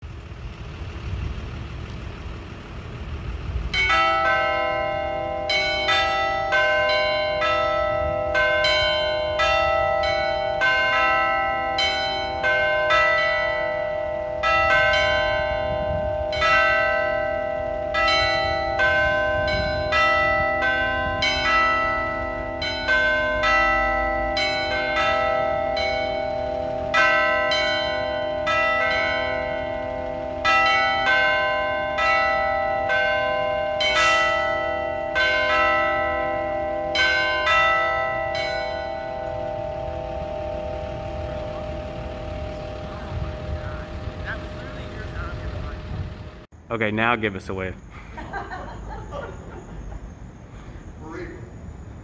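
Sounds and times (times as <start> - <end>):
church bells ringing: 3.7 - 46.4.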